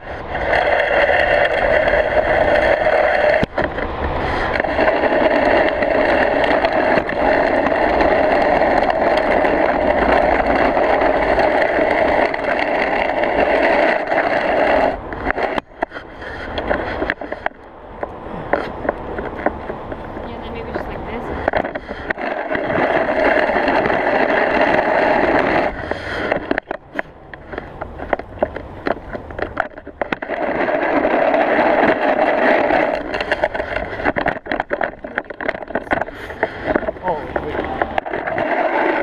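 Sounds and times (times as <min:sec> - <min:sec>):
snow pusher scraping pavement: 0:00.0 - 0:39.0.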